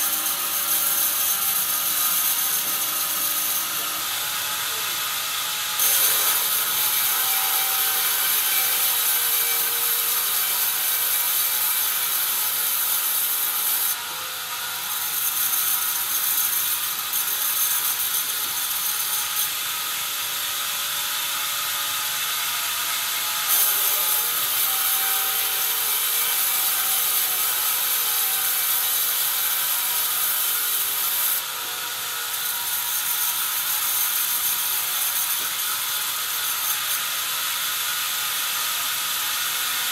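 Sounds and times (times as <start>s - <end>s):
band saw cutting wood: 0.0s - 20.4s, 21.2s - 39.9s.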